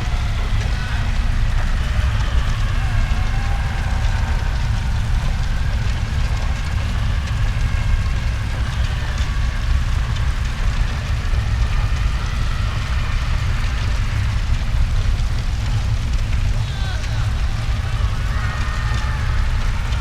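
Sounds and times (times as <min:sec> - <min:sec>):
faint wavering screams: 0:00.0 - 0:14.5, 0:16.6 - 0:20.0.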